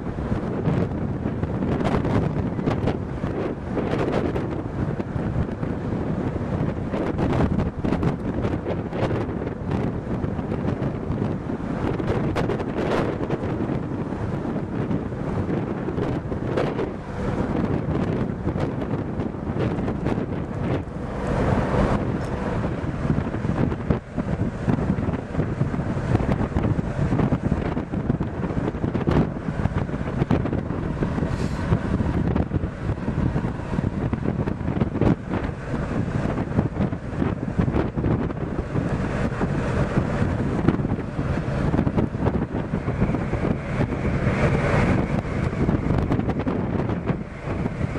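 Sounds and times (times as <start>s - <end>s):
churning ship wake: 0.0s - 47.9s
wind buffeting microphone: 0.0s - 47.9s.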